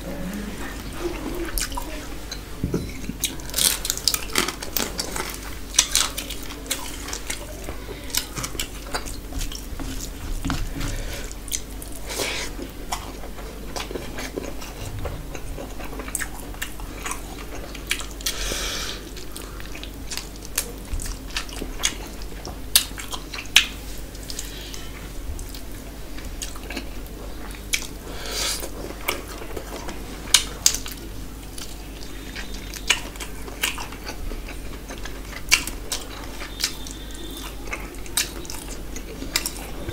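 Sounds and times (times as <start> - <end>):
person chewing and mouth smacking: 0.2 - 39.9.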